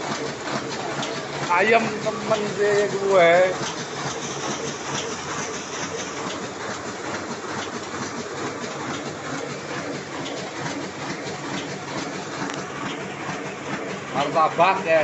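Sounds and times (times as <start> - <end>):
printing press clattering: 0.0 - 15.0.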